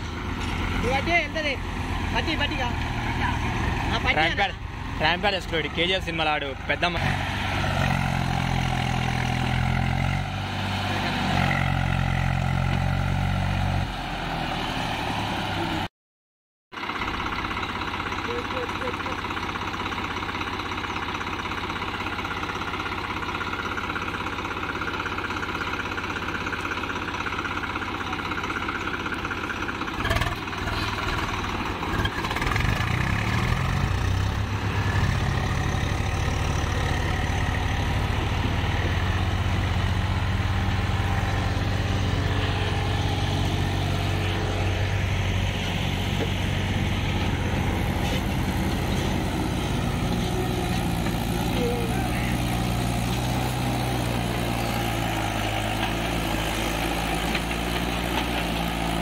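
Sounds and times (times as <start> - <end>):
tractor diesel engines running: 0.0 - 15.9, 16.8 - 59.0.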